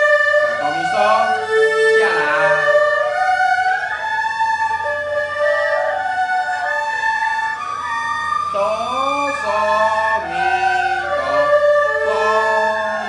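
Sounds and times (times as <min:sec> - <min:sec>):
erhu bowed notes with slides: 0:00.0 - 0:13.0.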